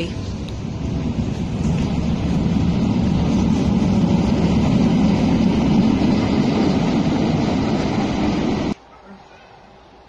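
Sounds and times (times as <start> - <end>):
rumble of wheels and motors: 0.0 - 8.8
electric train passing: 0.0 - 8.9.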